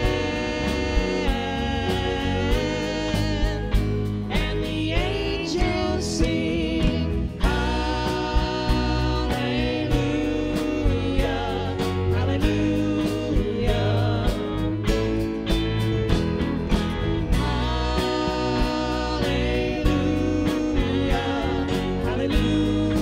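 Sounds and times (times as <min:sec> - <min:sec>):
drum kit beat: 0:00.0 - 0:23.0
electric bass: 0:00.0 - 0:23.0
guitars: 0:00.0 - 0:23.0
keyboard: 0:00.0 - 0:23.0.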